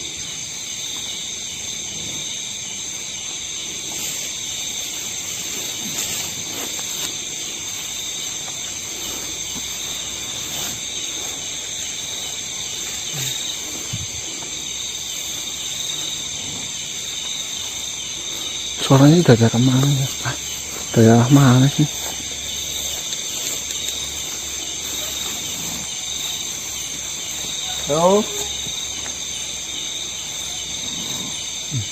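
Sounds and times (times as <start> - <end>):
crickets and insects chirping: 0.0 - 31.9.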